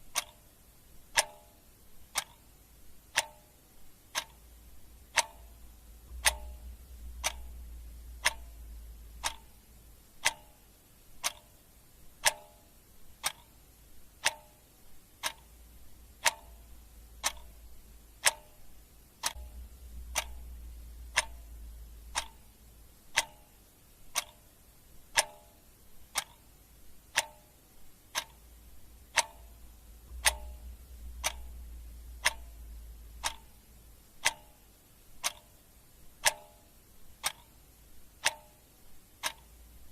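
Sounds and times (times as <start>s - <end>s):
clock ticking: 0.0s - 39.9s
faint low rumble: 0.0s - 39.9s.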